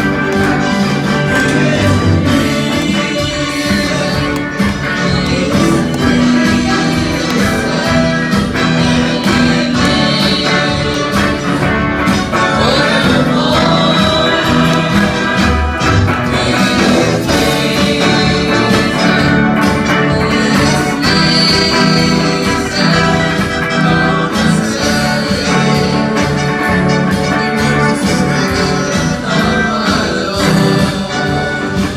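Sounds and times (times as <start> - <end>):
band playing with singing: 0.0 - 31.9.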